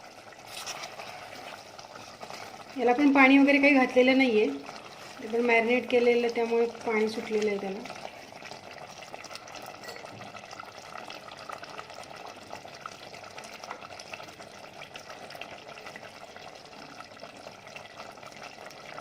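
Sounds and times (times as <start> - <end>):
chicken sizzling and bubbling: 0.0 - 19.0.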